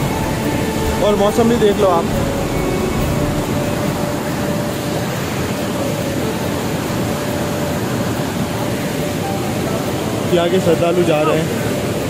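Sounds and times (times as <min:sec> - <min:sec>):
river rushing over boulders: 0:00.0 - 0:12.0.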